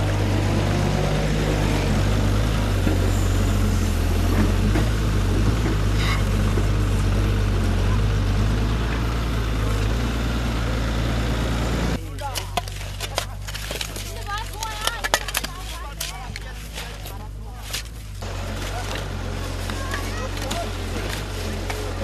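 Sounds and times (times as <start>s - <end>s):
engine running with rushing noise: 0.0s - 14.7s, 15.3s - 22.0s.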